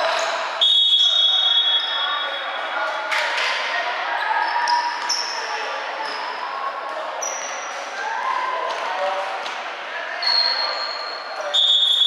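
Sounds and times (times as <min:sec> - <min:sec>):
sneakers squeaking: 0:00.0 - 0:02.6, 0:03.7 - 0:12.0.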